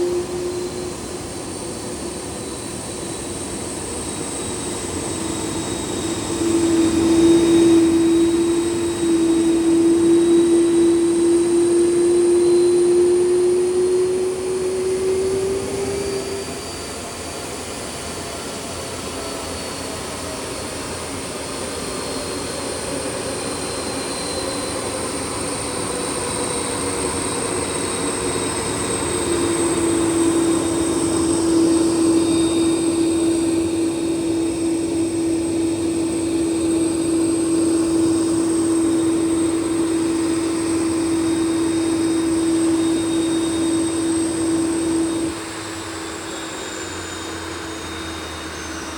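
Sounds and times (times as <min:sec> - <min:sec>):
jet engines humming: 0:00.0 - 0:48.9
low engine whine: 0:00.0 - 0:48.9.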